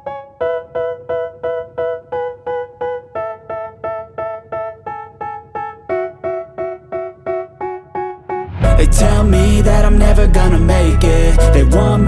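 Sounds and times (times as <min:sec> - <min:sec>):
repeated piano-like keyboard chords: 0:00.0 - 0:12.0.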